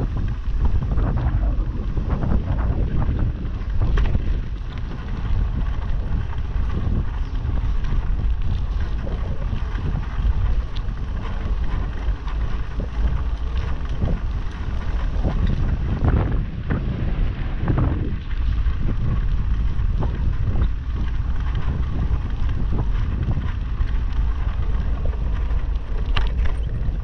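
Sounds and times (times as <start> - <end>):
bicycle knocks and rattles: 0.0 - 27.0
wind buffeting microphone: 0.0 - 27.0.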